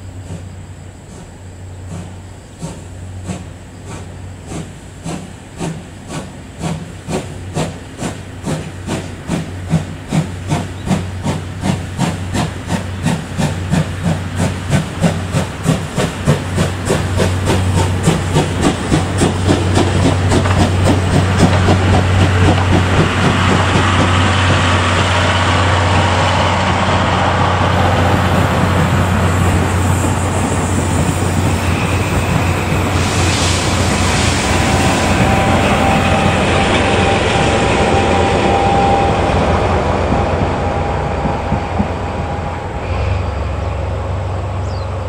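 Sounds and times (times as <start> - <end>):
steam locomotive chuffing: 0.0 - 45.0.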